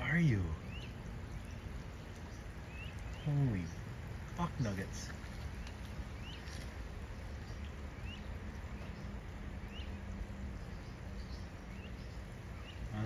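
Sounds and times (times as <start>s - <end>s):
bird chirping: 0.0s - 13.0s
low background hum: 0.0s - 13.0s.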